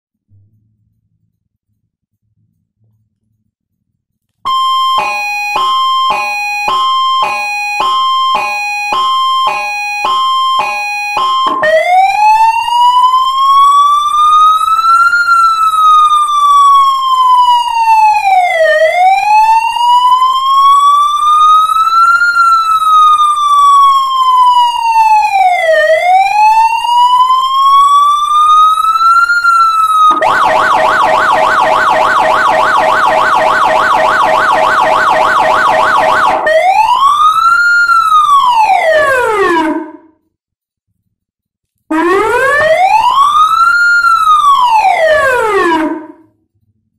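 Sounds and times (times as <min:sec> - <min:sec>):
electronic police siren: 0:04.5 - 0:40.1, 0:41.9 - 0:46.3.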